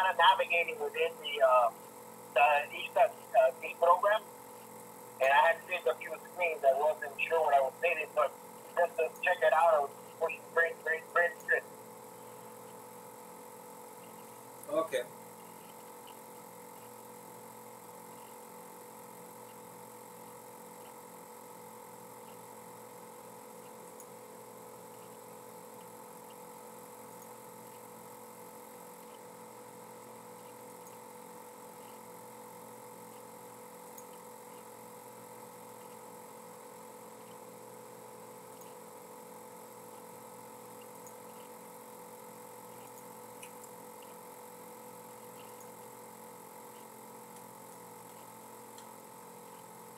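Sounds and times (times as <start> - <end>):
electronic hum and hiss: 0.0 - 49.9.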